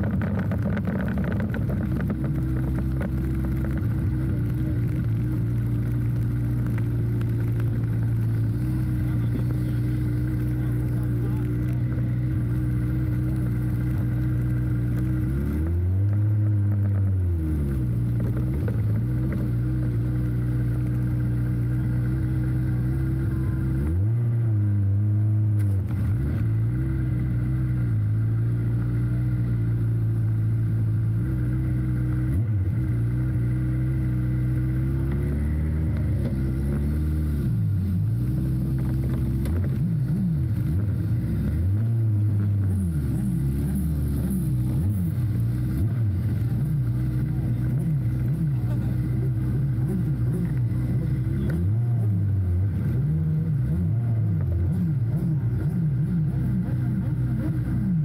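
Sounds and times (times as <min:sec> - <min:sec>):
engine idling with throttle blips: 0:00.0 - 0:35.2, 0:37.4 - 0:58.0.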